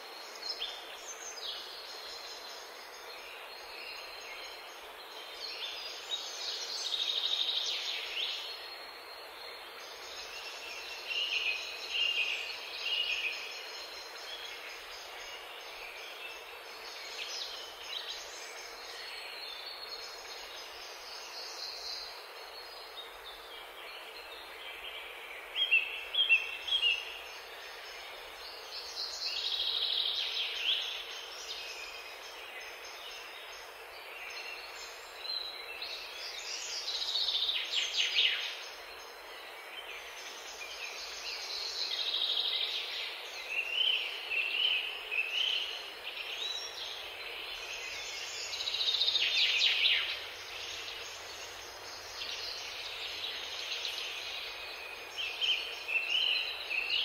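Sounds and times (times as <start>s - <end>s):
background hiss: 0.0s - 57.0s
songbirds warbling: 9.5s - 57.0s.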